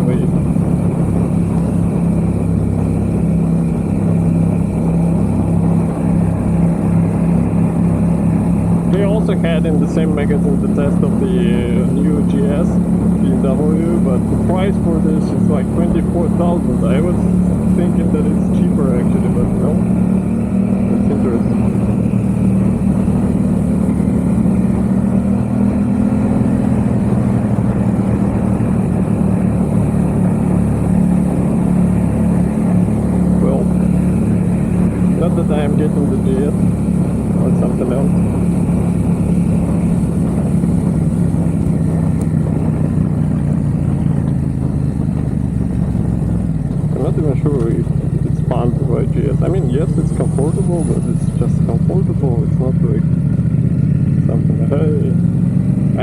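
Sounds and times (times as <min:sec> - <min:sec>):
motorcycle engine cruising: 0:00.0 - 0:56.0
riding noise: 0:00.0 - 0:56.0.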